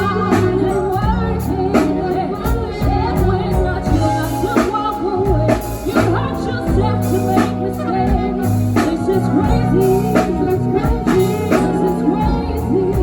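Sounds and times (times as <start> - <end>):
bass: 0.0 - 13.0
drum kit backbeat: 0.0 - 13.0.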